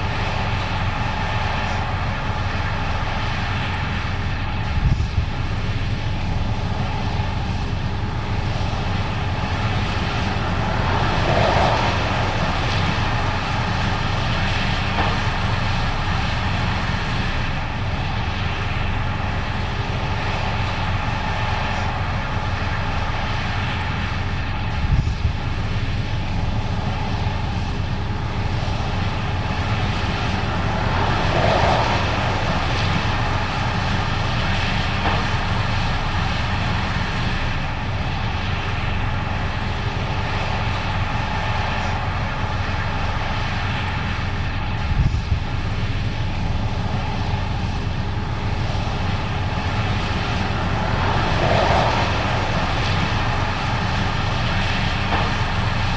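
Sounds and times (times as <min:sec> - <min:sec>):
combine harvester droning: 0:00.0 - 0:55.9.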